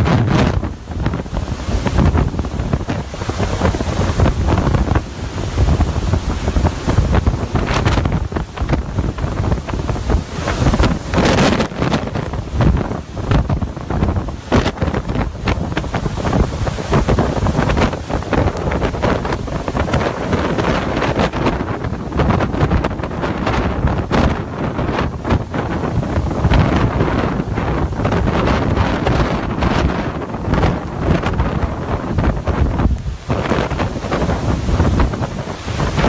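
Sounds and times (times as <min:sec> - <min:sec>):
strong wind on microphone: 0:00.0 - 0:36.0.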